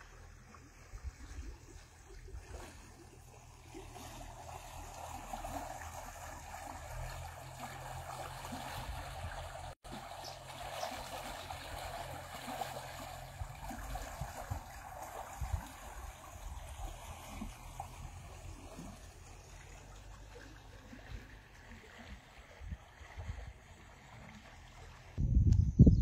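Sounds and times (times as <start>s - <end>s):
stream water rushing into pool: 0.0s - 25.2s.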